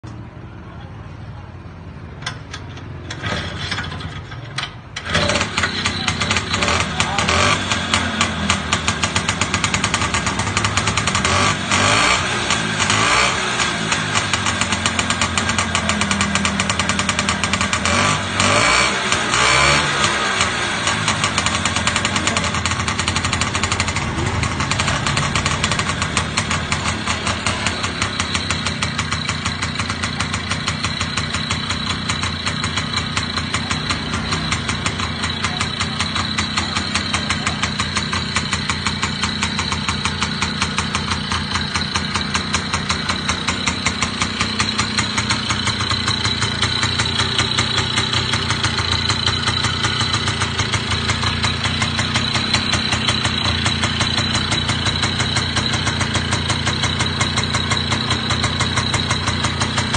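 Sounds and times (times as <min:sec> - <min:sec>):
motorcycle engine idling: 0:04.0 - 0:59.9.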